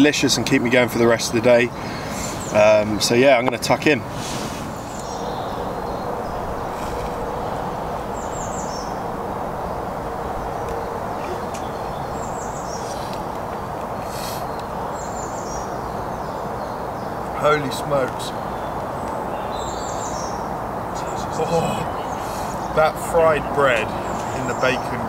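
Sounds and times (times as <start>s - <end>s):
small birds chirping: 0.0s - 25.0s
woodland background rush: 0.0s - 25.0s.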